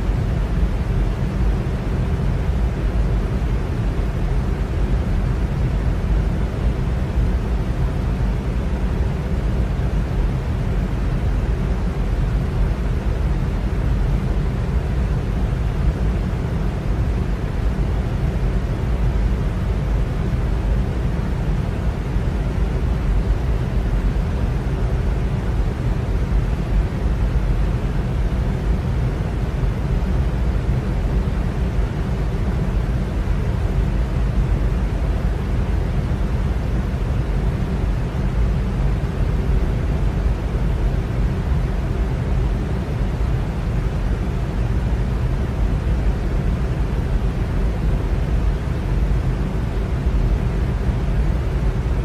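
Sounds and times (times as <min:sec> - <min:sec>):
electric fan running: 0:00.0 - 0:52.0
faint low hum: 0:00.0 - 0:52.0.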